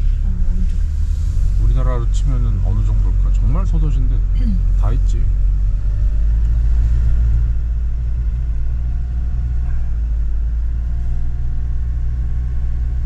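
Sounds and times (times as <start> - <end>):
road noise: 0.0 - 13.0
van engine rumble: 0.0 - 13.0.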